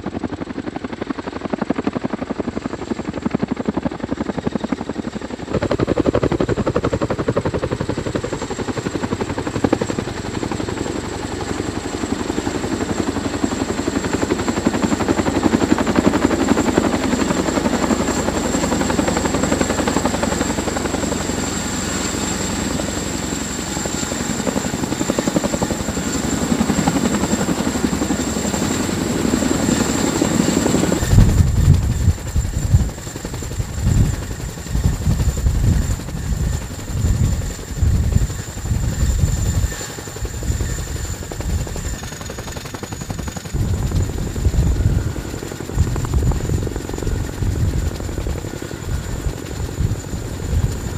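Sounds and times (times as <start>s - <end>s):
helicopter rotor blades beating: 0.0s - 50.9s
turbine whine: 4.5s - 50.9s.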